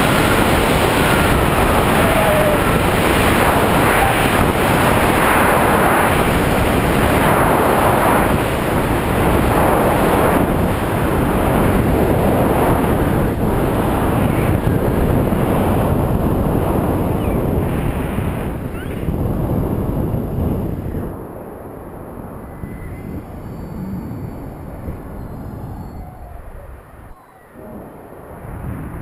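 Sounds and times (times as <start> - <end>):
wind rushing on microphone: 0.0 - 29.0.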